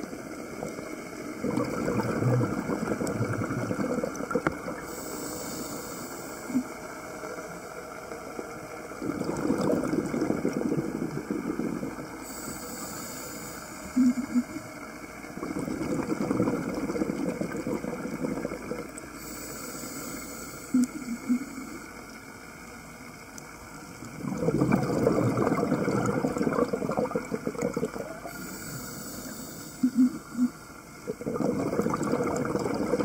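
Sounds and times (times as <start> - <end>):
exhaled bubbles gurgling: 0.0 - 8.1, 8.7 - 22.2, 23.9 - 33.0
scuba diver breathing underwater: 1.4 - 6.8, 9.0 - 14.8, 15.4 - 21.9, 24.2 - 33.0.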